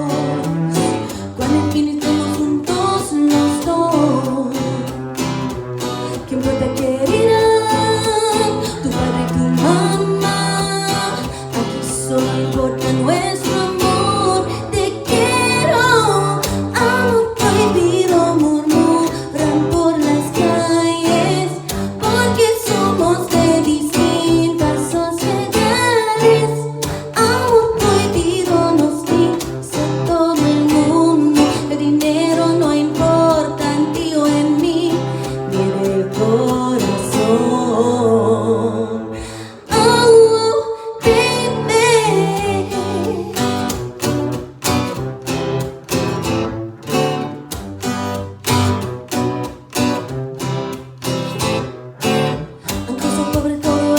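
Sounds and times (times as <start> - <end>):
woman singing: 0.0 - 44.4, 52.2 - 53.9
strummed guitar: 0.0 - 53.9.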